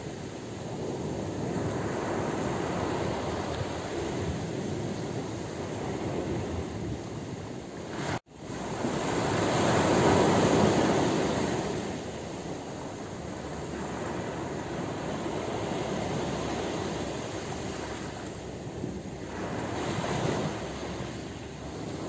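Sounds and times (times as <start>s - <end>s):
ocean waves washing: 0.0s - 22.0s.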